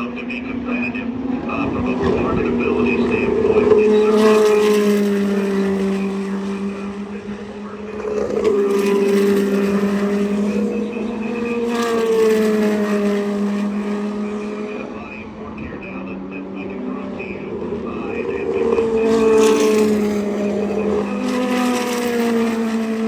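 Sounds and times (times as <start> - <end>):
race cars passing at speed: 0.0 - 23.0.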